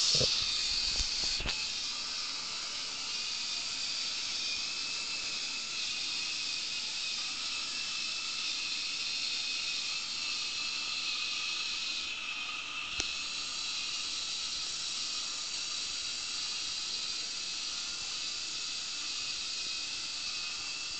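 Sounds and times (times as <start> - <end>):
small electric motor whirring: 0.0 - 20.9.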